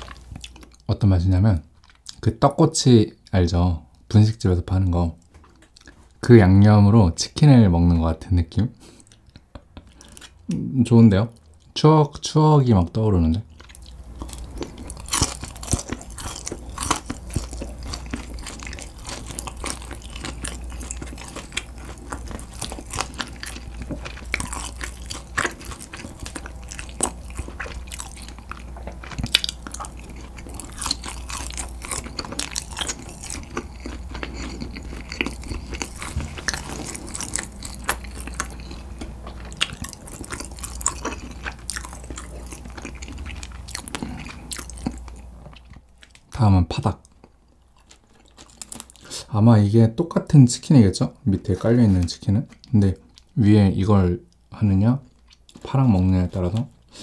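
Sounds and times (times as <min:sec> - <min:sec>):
chewing crunchy fried chicken: 0:00.0 - 0:00.9, 0:01.7 - 0:02.3, 0:05.1 - 0:06.7, 0:08.8 - 0:10.6, 0:12.9 - 0:49.3, 0:50.5 - 0:57.0.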